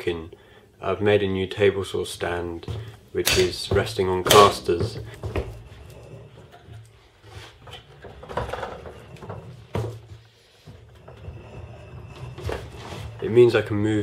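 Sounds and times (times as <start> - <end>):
wheels rolling on wooden floor: 1.0 - 14.0.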